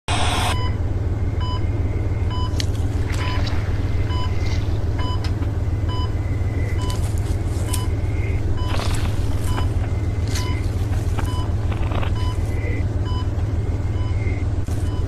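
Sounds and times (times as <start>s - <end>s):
heart monitor beeping: 0.1s - 0.8s, 1.4s - 15.0s
steady low hum: 0.1s - 15.0s.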